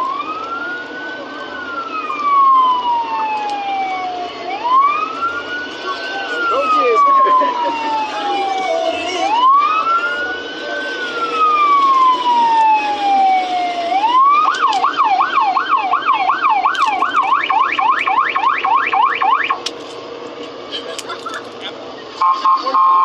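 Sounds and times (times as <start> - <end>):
emergency siren wailing and yelping: 0.0 - 19.6, 22.2 - 23.0.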